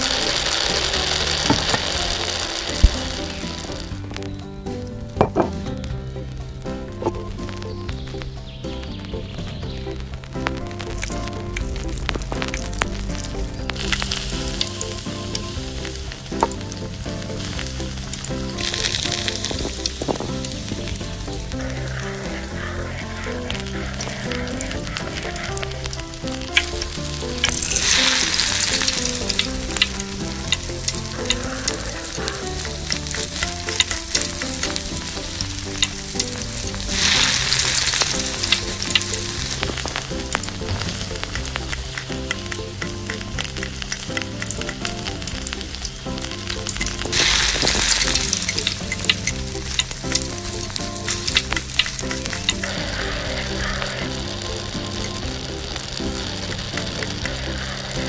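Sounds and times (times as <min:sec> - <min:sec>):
curry sizzling in clay pot: 0:00.0 - 0:58.0.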